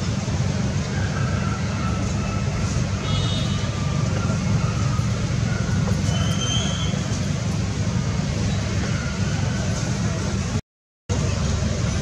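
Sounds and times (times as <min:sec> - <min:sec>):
low rumble of background noise: 0:00.0 - 0:12.0.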